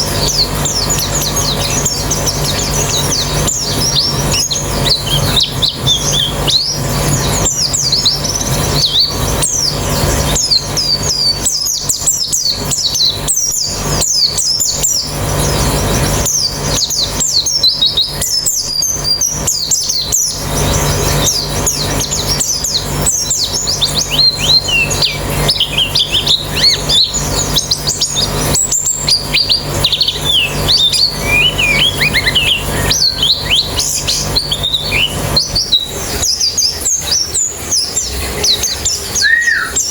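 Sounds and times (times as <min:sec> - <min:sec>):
birds twittering and chirping: 0:00.0 - 0:39.9
steady low hum: 0:00.0 - 0:39.9.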